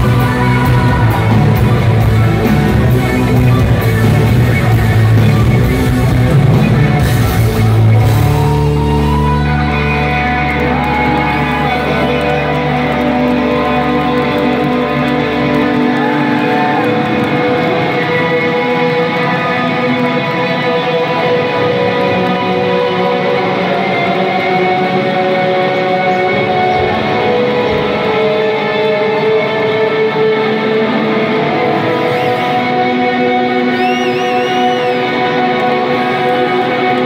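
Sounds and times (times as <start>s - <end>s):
amplified electric guitars: 0.0s - 37.0s.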